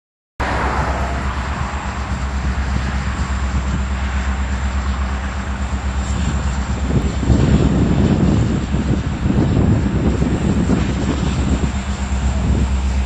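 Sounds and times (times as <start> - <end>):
freight train rolling on rails: 0.4 - 13.0
rough low rumble: 0.4 - 13.0
steady low hum: 0.4 - 13.0.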